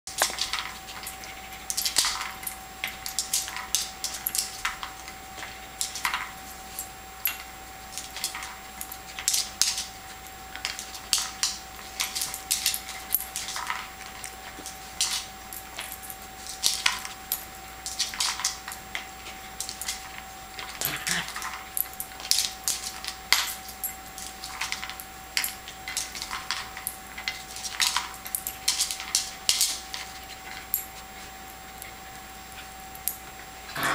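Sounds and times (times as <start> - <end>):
treats rattling inside toy: 0.1 - 31.0.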